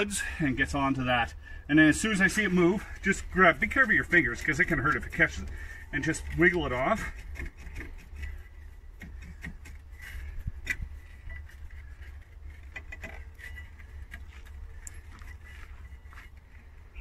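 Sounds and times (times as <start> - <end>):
low background hum: 0.0 - 17.0
rusted brake rotor clicks and scrapes: 2.0 - 17.0.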